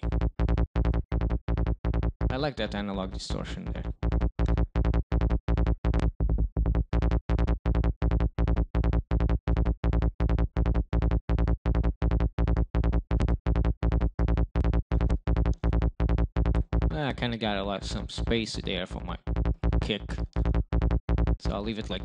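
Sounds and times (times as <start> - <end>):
synth bass line: 0.0 - 22.0.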